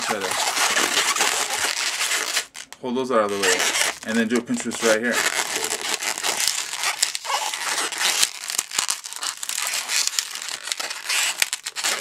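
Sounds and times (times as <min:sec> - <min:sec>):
rubbery balloon rubbing: 0:00.0 - 0:12.0.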